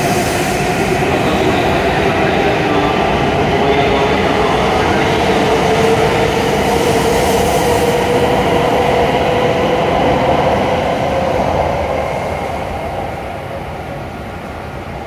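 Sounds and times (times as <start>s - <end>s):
train passing with steady whine: 0.0s - 15.0s.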